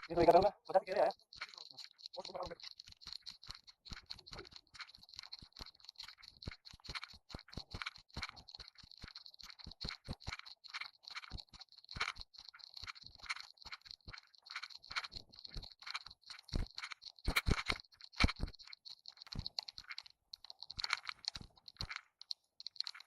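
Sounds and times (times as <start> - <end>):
irregular crunching and crackling: 0.0 - 23.0.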